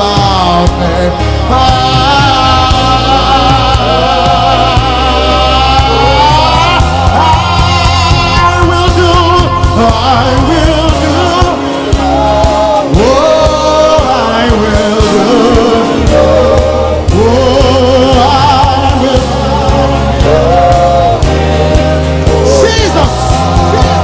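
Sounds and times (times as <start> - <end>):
gospel band playing: 0.0 - 24.0
people singing with vibrato: 0.0 - 24.0.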